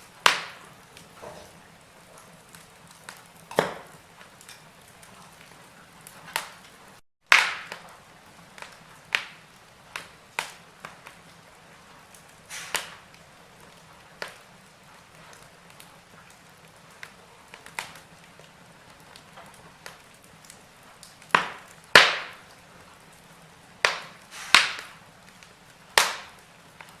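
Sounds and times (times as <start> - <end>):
faint steady hiss: 0.0 - 7.0, 7.6 - 27.0
fire crackling and popping: 0.0 - 27.0.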